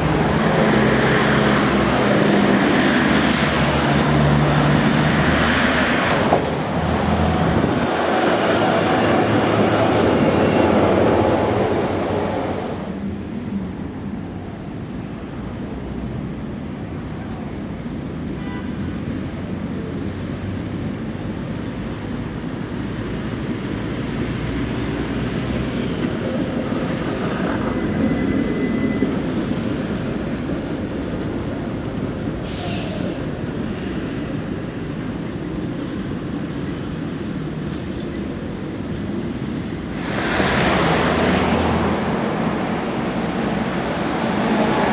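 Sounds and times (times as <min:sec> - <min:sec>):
tram wheels rumbling on rail: 0:00.0 - 0:44.9.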